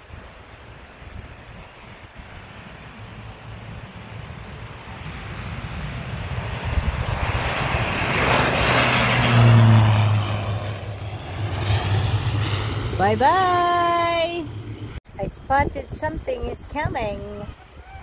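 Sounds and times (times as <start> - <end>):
small airplane engines: 0.0 - 18.0.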